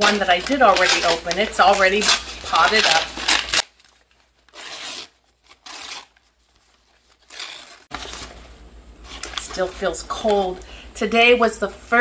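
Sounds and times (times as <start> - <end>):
paper bag crinkling: 0.0 - 10.4.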